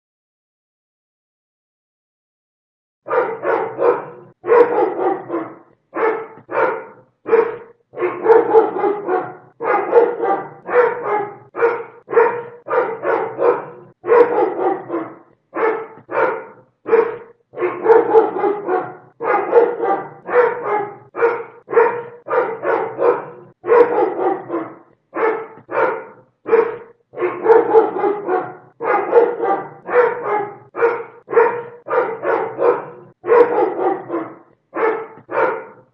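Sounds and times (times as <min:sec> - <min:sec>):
dog barking: 0:03.0 - 0:35.9.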